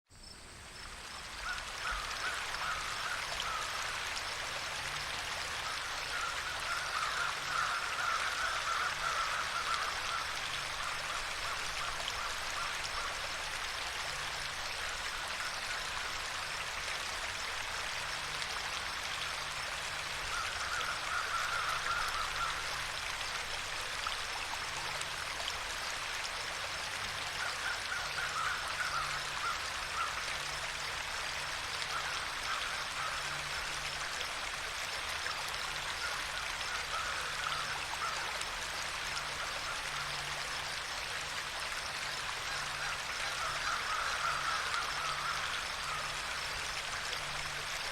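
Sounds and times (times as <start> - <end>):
water flowing over stones: 0.5 - 47.9.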